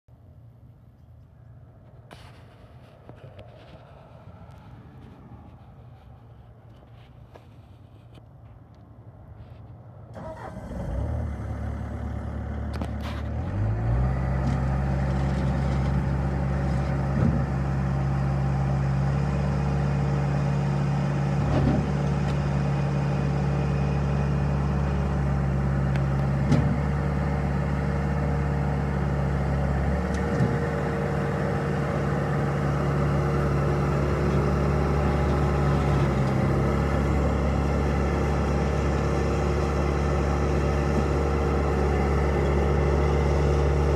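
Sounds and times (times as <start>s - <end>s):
diesel engine starting and running: 1.5s - 43.9s.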